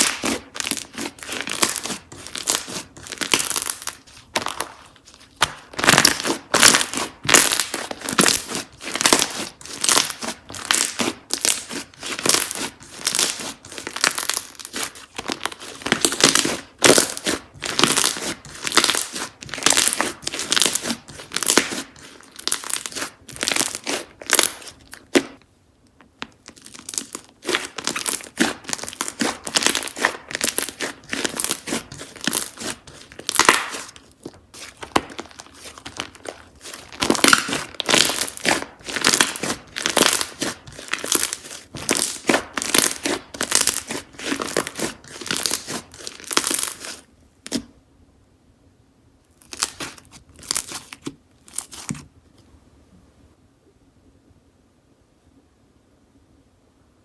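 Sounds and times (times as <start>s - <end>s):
slime squelching: 0.0s - 25.4s, 26.1s - 47.7s, 49.3s - 52.1s.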